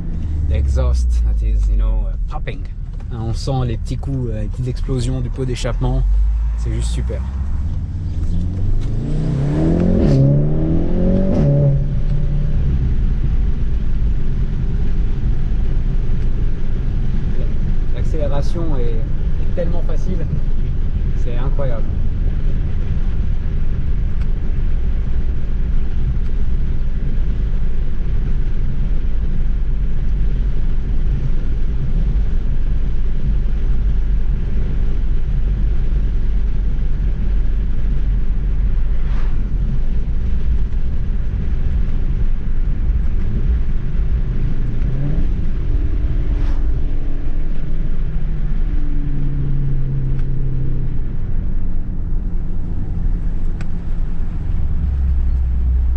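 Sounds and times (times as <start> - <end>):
car engine and road rumble: 0.0 - 55.9.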